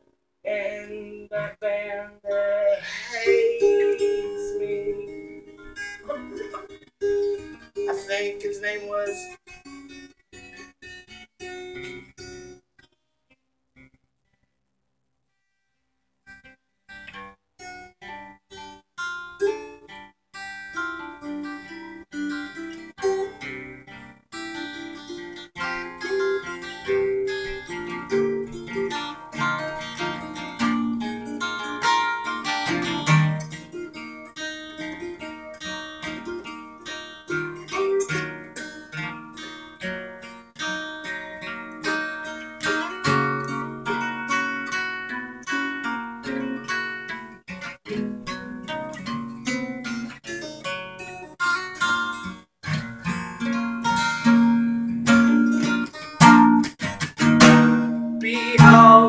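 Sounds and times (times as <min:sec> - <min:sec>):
acoustic guitars playing: 0:00.0 - 0:13.0, 0:16.2 - 0:59.0.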